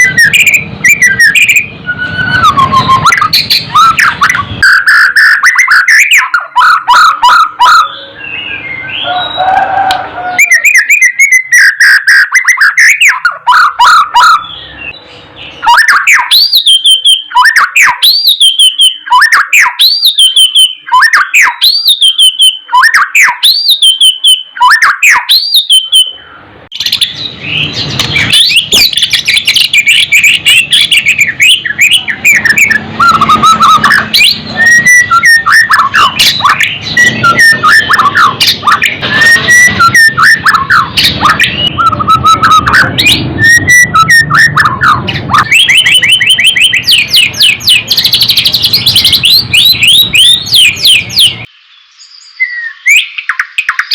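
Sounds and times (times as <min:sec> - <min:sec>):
bird singing whistled phrases: 0:00.0 - 0:53.9.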